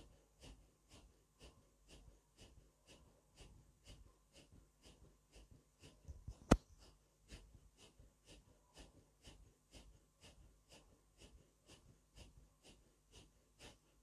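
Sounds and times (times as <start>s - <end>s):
rhythmic forceful breathing: 0.0s - 14.0s.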